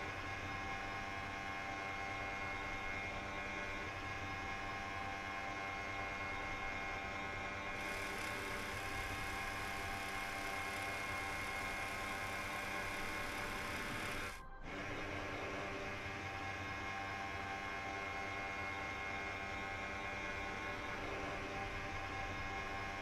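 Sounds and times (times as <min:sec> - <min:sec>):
droning hum: 0:00.0 - 0:23.0.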